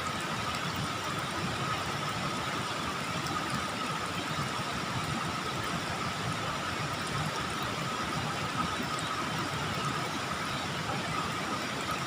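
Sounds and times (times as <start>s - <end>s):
water rushing in a ditch: 0.0s - 12.0s.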